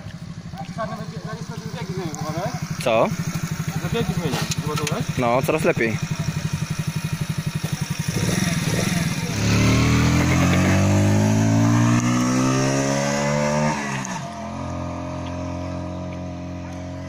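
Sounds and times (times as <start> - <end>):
moped engine revving: 0.0 - 17.0.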